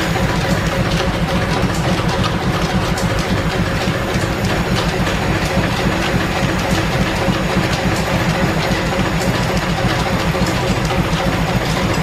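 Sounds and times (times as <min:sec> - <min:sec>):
lathe rhythmic clatter: 0:00.0 - 0:12.0.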